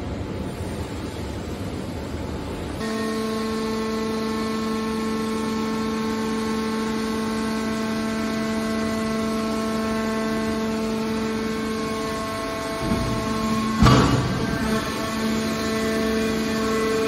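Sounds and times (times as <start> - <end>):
hydraulic pump whining: 2.8 - 17.0.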